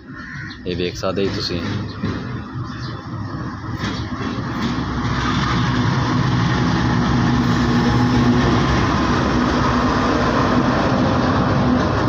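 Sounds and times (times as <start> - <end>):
diesel locomotive passing: 0.7 - 12.0.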